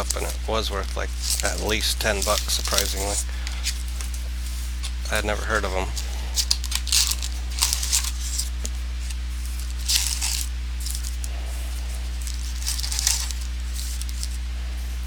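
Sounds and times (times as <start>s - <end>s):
card wrappers rustling: 0.0s - 15.0s
low electrical hum: 0.0s - 15.0s.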